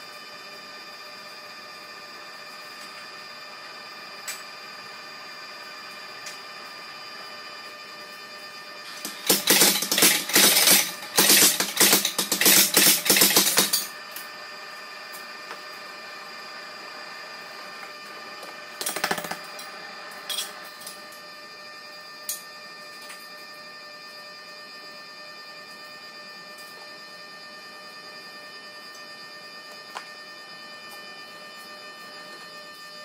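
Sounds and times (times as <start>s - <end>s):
steady high whine: 0.0s - 33.0s.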